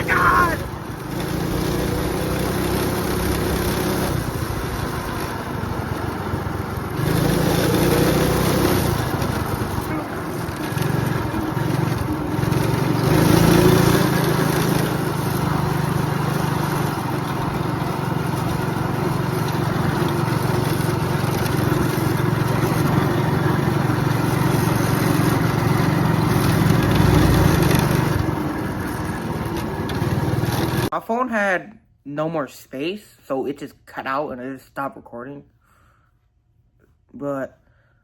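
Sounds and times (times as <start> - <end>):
go-kart engine running: 0.0 - 30.9.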